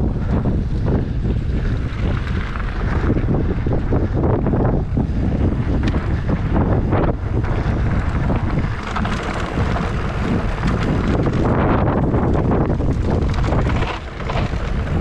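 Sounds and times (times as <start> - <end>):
bike rattling and knocking: 0.0 - 15.0
tyres rumbling on loose trail: 0.0 - 15.0
wind buffeting microphone: 0.0 - 15.0.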